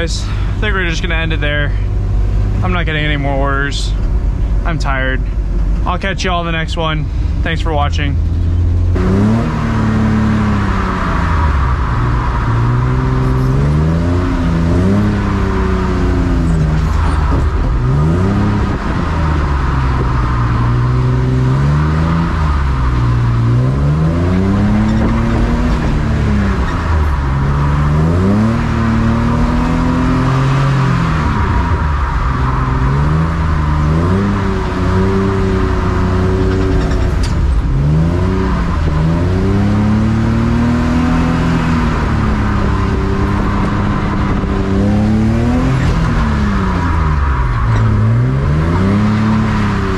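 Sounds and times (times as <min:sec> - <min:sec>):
road and wind noise: 0:00.0 - 0:49.9
car engine revving hard: 0:08.4 - 0:49.9.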